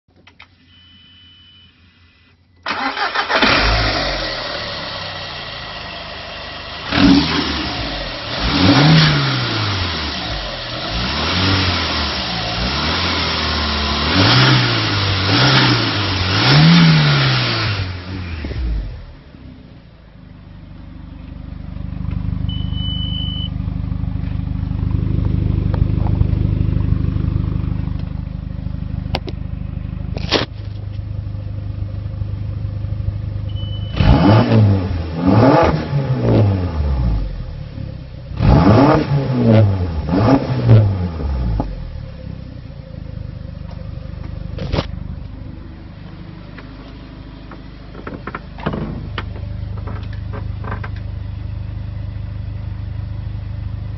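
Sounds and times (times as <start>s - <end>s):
car engine idling and revving: 2.0s - 53.9s.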